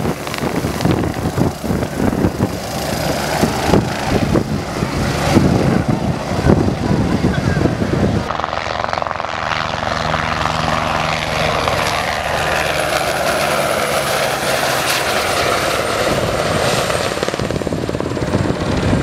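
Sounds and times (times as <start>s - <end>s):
helicopter rotor chop: 0.0s - 19.0s
high turbine whine: 0.0s - 19.0s.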